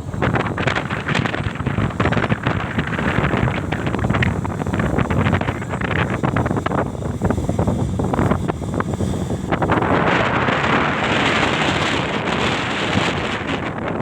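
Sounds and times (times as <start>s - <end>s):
combine harvester rumbling: 0.0s - 14.0s
wind buffeting microphone: 0.0s - 14.0s.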